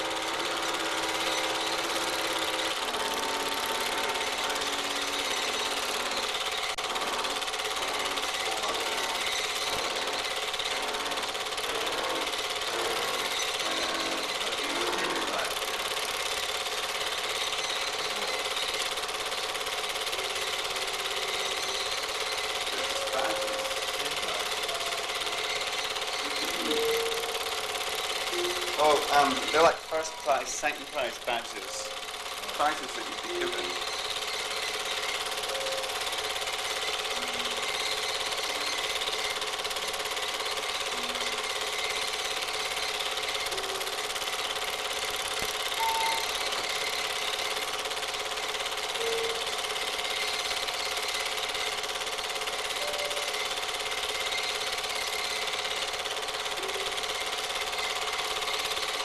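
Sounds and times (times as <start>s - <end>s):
film projector rattling: 0.0s - 59.0s.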